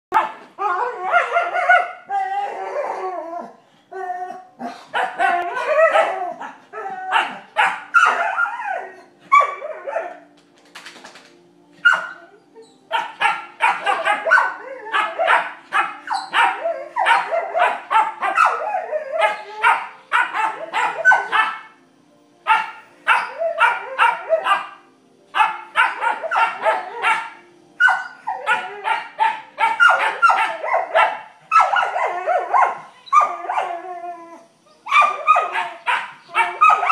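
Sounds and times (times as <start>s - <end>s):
dogs barking and yipping: 0.1s - 3.6s, 4.2s - 10.3s, 11.8s - 21.8s, 22.5s - 36.9s.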